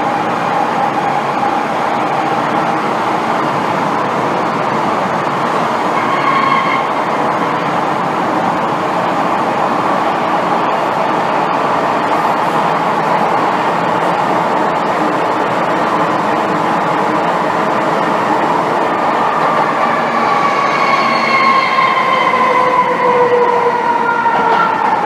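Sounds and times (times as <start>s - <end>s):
metro car wheels rumbling: 0.0s - 25.0s.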